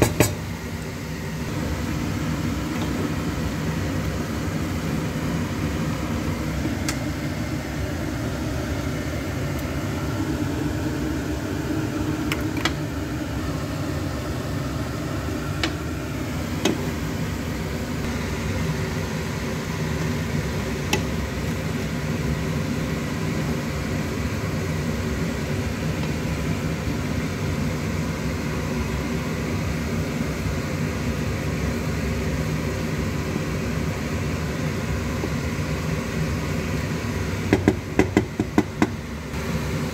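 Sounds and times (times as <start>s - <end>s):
steady mechanical hum: 0.0s - 39.9s.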